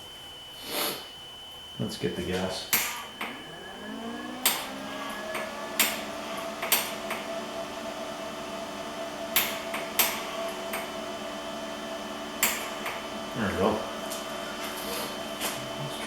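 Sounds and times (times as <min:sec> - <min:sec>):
steady pitched hum: 0:00.0 - 0:16.0.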